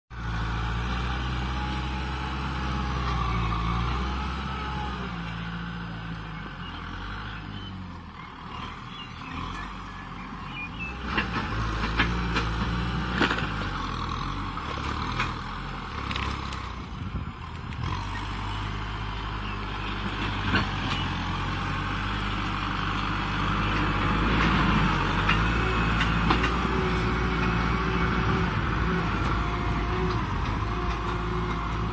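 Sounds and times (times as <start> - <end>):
tractor diesel engine under load: 0.1 - 31.9.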